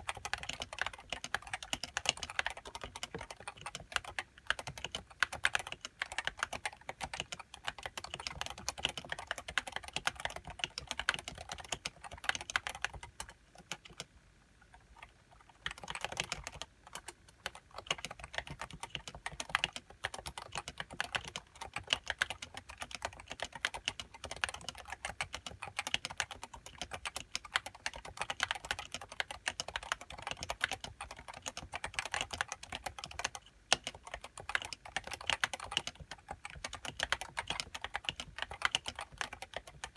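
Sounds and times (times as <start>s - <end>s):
fast keyboard typing: 0.0s - 14.1s, 14.7s - 39.9s.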